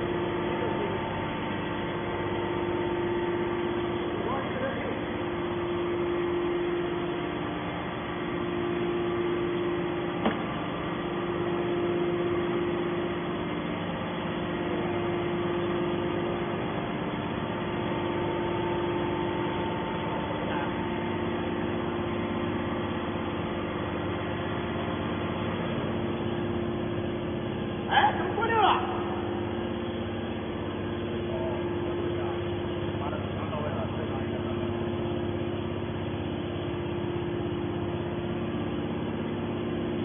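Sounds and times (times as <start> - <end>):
hydraulic motor and pump humming: 0.0 - 40.0.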